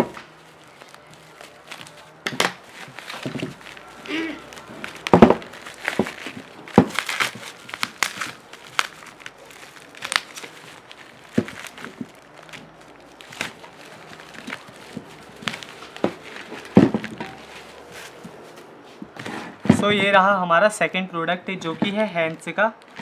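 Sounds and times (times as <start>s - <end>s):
bubble wrap and plastic crinkling: 0.0s - 20.4s, 21.4s - 23.0s.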